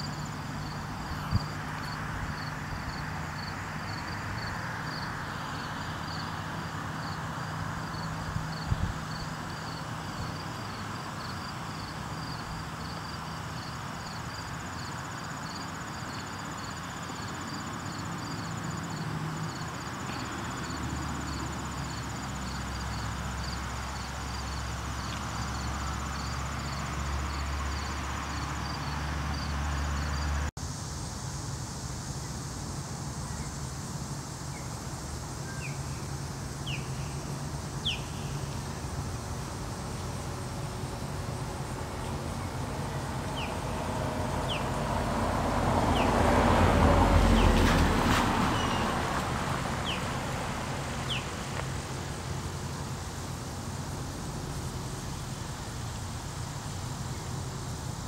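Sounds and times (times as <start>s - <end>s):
distant traffic rumble: 0.0s - 58.0s
pulsing insect call: 0.0s - 58.0s.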